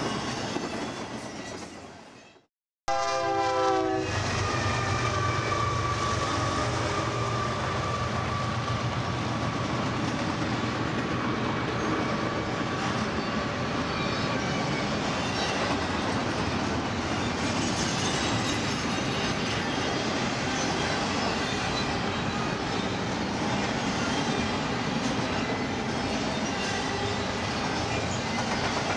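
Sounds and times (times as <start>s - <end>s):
freight train rumbling past: 0.0s - 2.3s, 2.9s - 28.9s.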